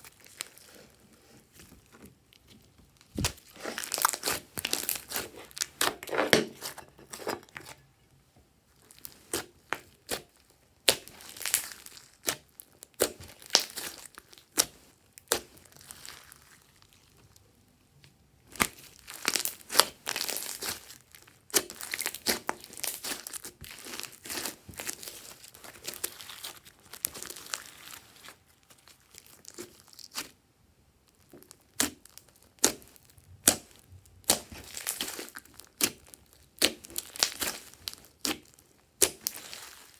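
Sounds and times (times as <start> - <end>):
slime crackling and popping: 0.0 - 1.0, 1.8 - 6.8, 8.8 - 17.4, 18.5 - 30.4, 31.0 - 39.9.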